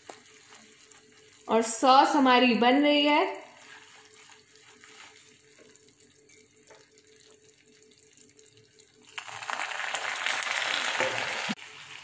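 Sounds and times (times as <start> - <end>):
sauce bubbling in a frying pan: 0.0 - 2.2, 3.4 - 12.0.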